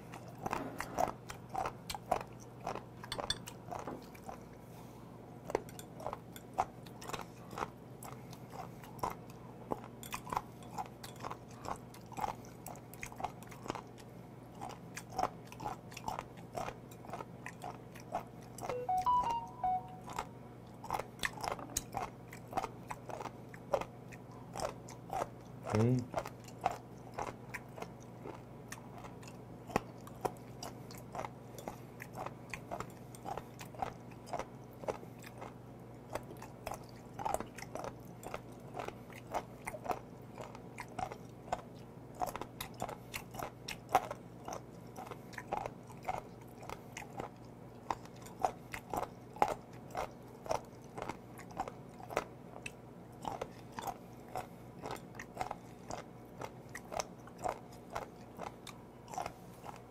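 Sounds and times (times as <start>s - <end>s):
crunchy chewing: 0.0s - 18.8s, 20.2s - 59.9s.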